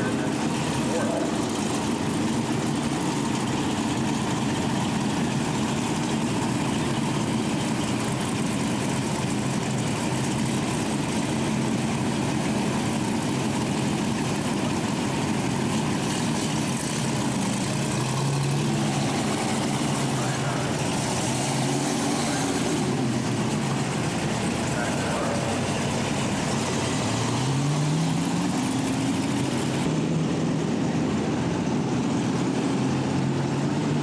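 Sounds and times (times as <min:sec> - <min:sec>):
stock car engines droning: 0:00.0 - 0:34.0.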